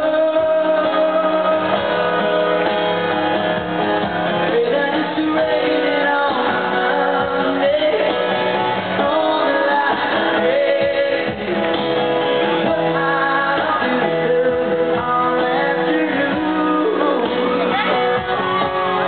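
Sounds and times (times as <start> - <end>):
man singing into microphone: 0.0 - 2.5, 4.3 - 19.0
acoustic guitar strumming: 0.0 - 19.0.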